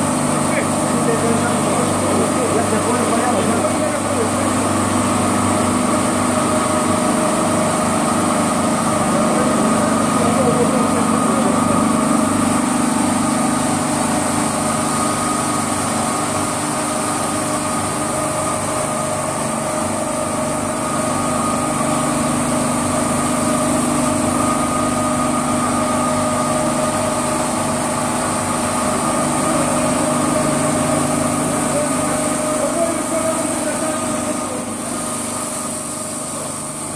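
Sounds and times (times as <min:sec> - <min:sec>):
carpet washing machine running: 0:00.0 - 0:36.9.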